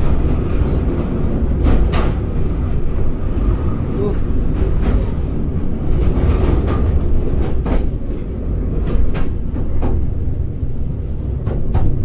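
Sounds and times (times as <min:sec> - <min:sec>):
train rumbling on rails: 0:00.0 - 0:12.0
wheels clacking on track: 0:00.0 - 0:12.0.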